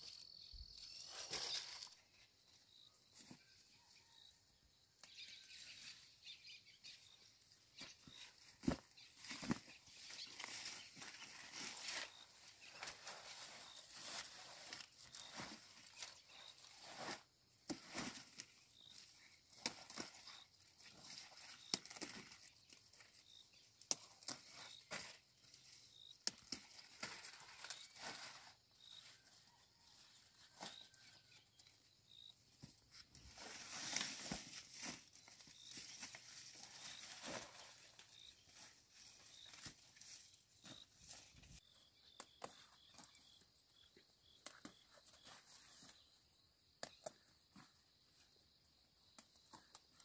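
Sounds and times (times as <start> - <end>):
leaves and twigs rustling: 0.0 - 4.2, 5.0 - 46.2.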